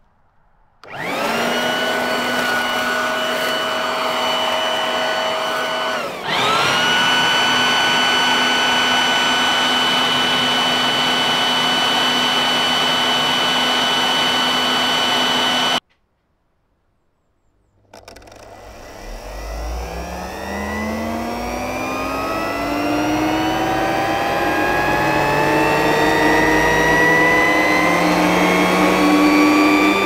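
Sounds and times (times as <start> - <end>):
leaf blower motor whine: 0.8 - 15.8, 17.9 - 30.0.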